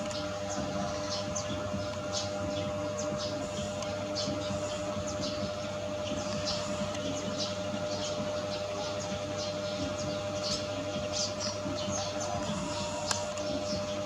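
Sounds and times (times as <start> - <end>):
small birds chirping: 0.0 - 14.0
steady hum: 0.0 - 14.0.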